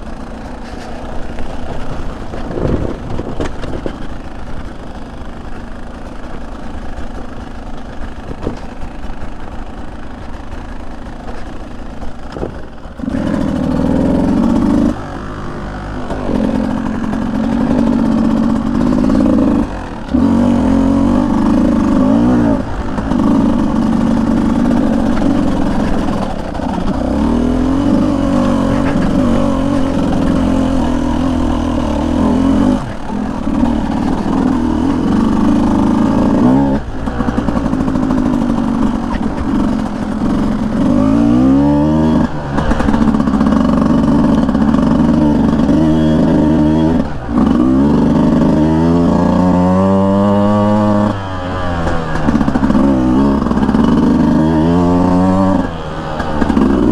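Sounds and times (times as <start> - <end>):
two-stroke dirt bike engine revving: 0.0 - 56.9.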